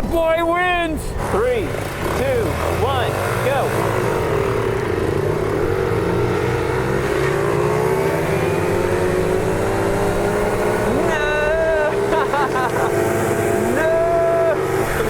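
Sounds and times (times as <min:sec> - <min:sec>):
small motorbike engine at full throttle: 0:01.2 - 0:15.0.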